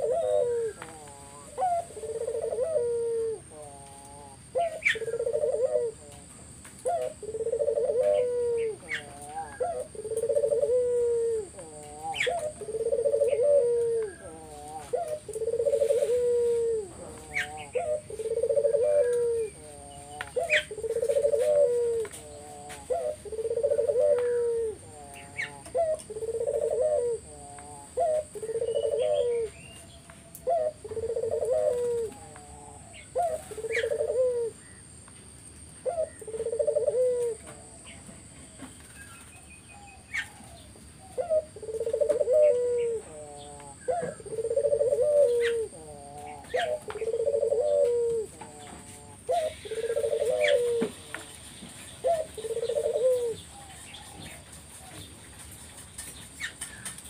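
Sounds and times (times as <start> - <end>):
dove cooing: 0.0 - 57.0
small birds chirping: 0.0 - 57.0.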